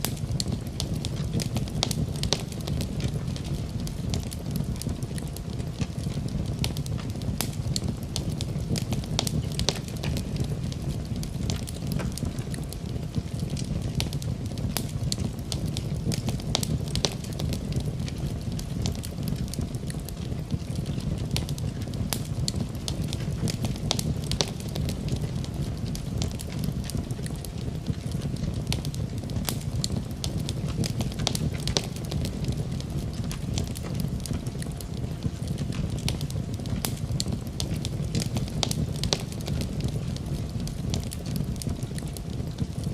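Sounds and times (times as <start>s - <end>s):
fire crackling in a fireplace: 0.0s - 42.9s.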